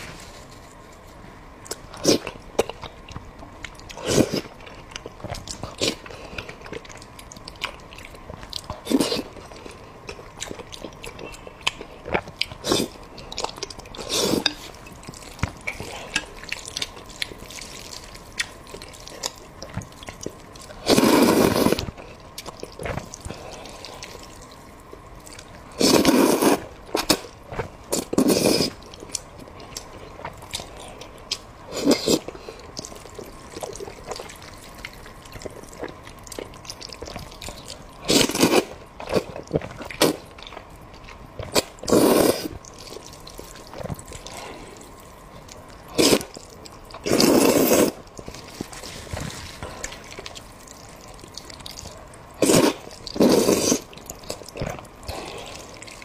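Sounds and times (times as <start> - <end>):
person chewing food: 1.6 - 56.0.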